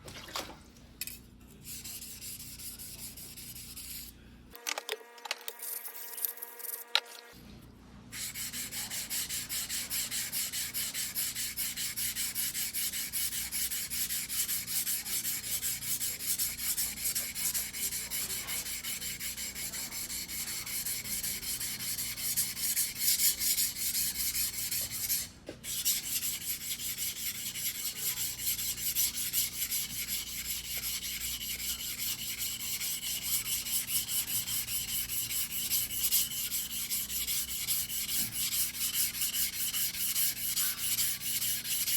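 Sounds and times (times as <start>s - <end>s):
knife sharpening on whetstone: 8.2s - 41.9s.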